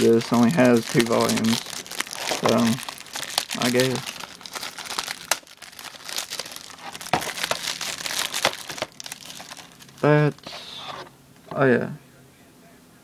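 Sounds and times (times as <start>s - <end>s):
plastic wrap crinkling: 0.0s - 11.1s.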